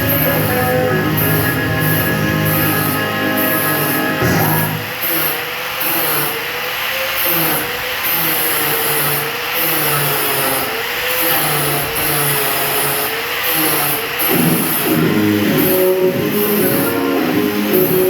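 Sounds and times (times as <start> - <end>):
angle grinder grinding steel: 0.0 - 18.0.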